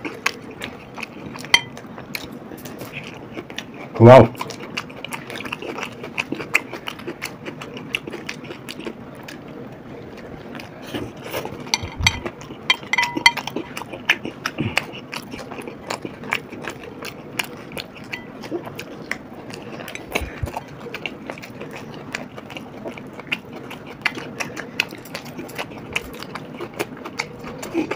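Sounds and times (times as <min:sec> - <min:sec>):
people chewing with wet mouth clicks: 0:00.0 - 0:27.9.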